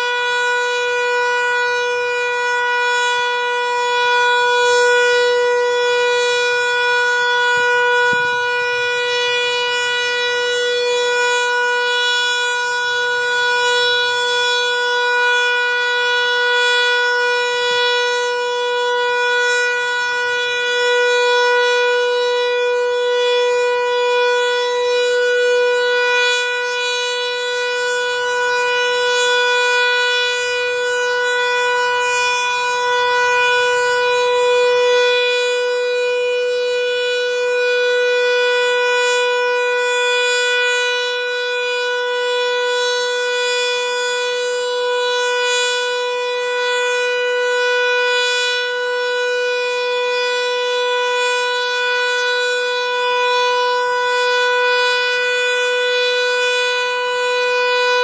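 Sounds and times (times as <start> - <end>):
electronic siren steady tone: 0.0 - 58.0.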